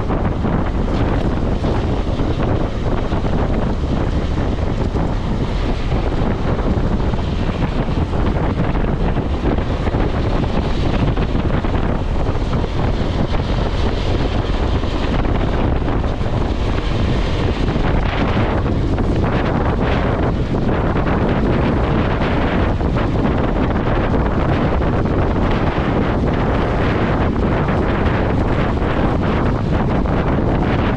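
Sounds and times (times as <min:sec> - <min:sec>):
motorcycle engine running: 0:00.0 - 0:30.9
wind buffeting microphone: 0:00.0 - 0:30.9.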